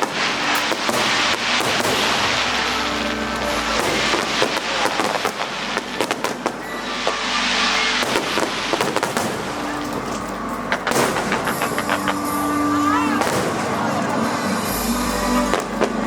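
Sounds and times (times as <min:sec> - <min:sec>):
fireworks bangs and crackles: 0:00.0 - 0:16.0
music: 0:00.0 - 0:16.0.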